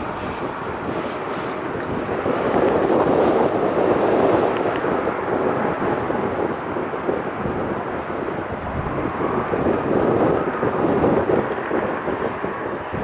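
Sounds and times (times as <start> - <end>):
jet engines rushing: 0.0 - 13.0
wind buffeting microphone: 0.0 - 13.0.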